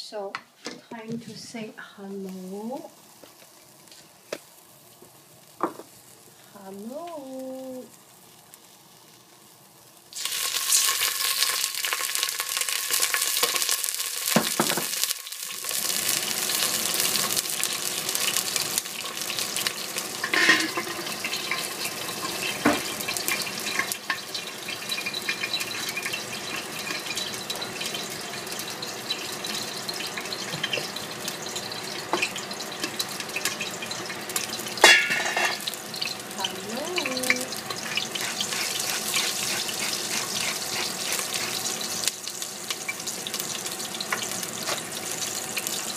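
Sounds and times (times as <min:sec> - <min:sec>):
scallions and garlic sizzling in oil: 0:00.0 - 0:45.9.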